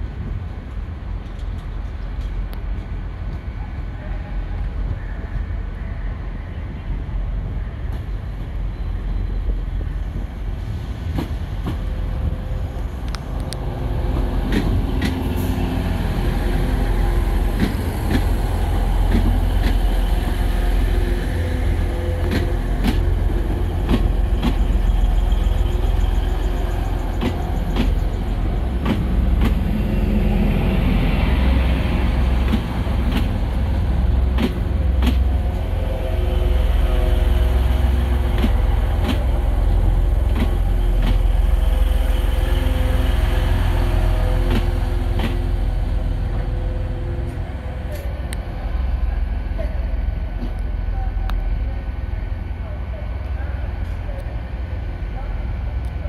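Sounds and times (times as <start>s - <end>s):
diesel train engine rumbling: 0.0s - 56.0s.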